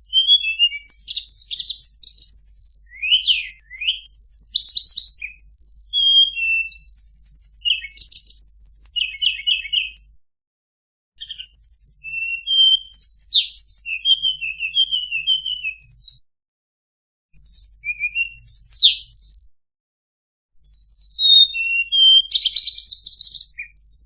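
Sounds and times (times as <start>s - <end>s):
bird high thin chirps and trills: 0.0s - 10.2s, 11.2s - 16.2s, 17.4s - 19.5s, 20.6s - 24.0s.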